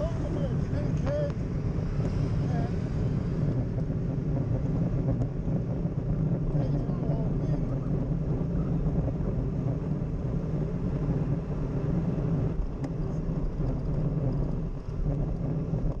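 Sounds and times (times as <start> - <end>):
low road rumble: 0.0 - 16.0
wind buffeting microphone: 0.0 - 16.0.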